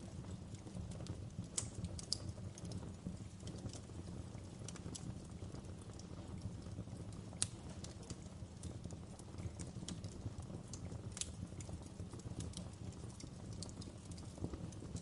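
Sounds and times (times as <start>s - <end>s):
fire pops and snaps: 0.0s - 15.0s
low rumble of burning logs: 0.0s - 15.0s.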